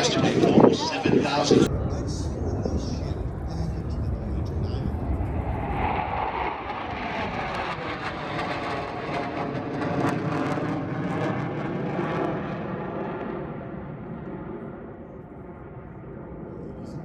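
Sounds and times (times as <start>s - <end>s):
jet engine with faint whine: 0.0s - 17.0s.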